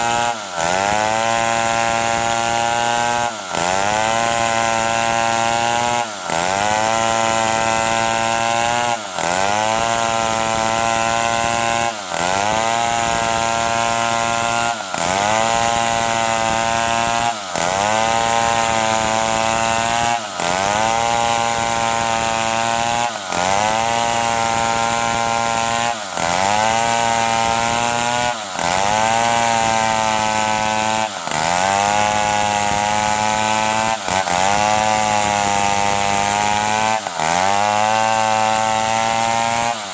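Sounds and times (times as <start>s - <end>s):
chainsaw sawing wood: 0.0s - 39.9s.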